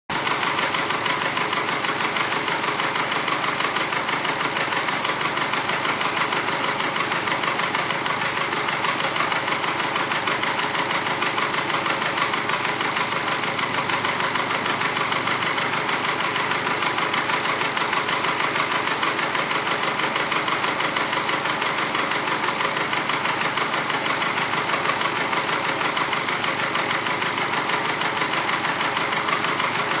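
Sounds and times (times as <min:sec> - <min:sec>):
engine running with knock: 0:00.1 - 0:30.0.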